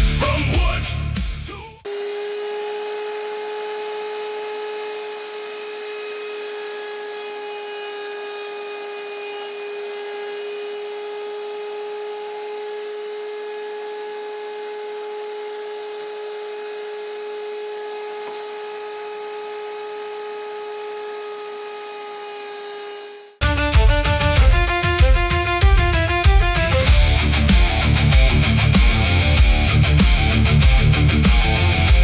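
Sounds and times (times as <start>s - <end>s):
cnc router spindle whining: 1.8s - 32.0s.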